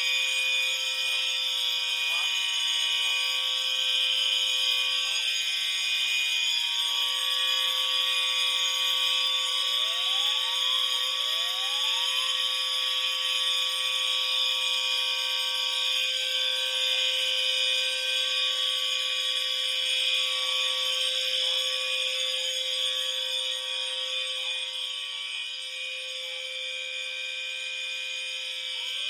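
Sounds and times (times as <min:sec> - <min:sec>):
fire alarm horns blaring: 0:00.0 - 0:29.0.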